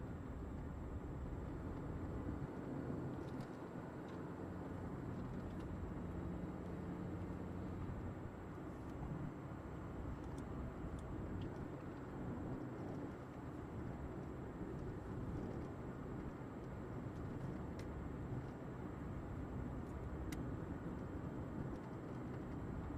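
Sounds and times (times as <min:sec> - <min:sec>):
car engine hum: 0:00.0 - 0:22.9.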